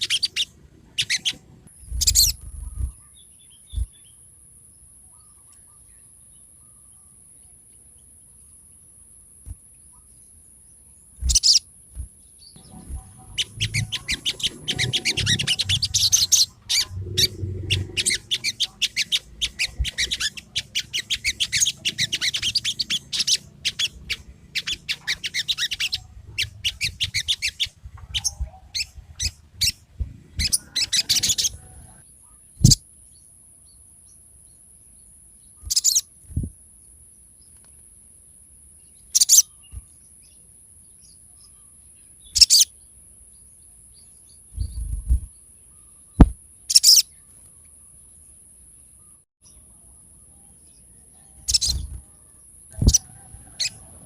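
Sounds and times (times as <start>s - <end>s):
songbird chirping: 0.0s - 54.0s.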